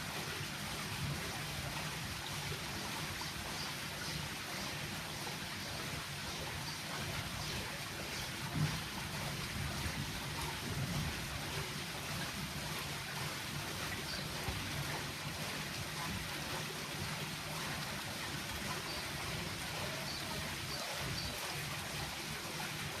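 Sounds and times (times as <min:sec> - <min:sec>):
brook water rushing: 0:00.0 - 0:23.0.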